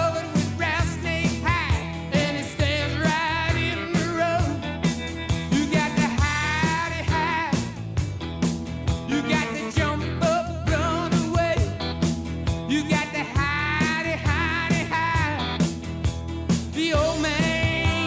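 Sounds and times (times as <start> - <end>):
rock song with singing: 0.0 - 18.0.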